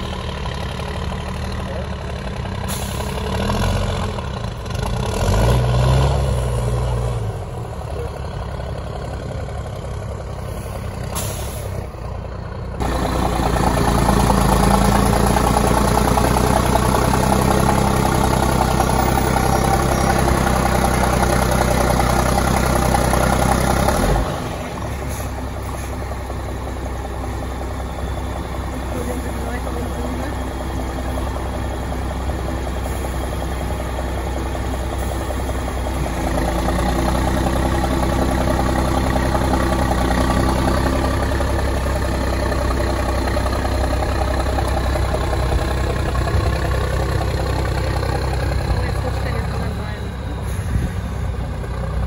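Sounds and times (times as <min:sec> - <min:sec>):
truck diesel engine under load: 0:00.0 - 0:52.0.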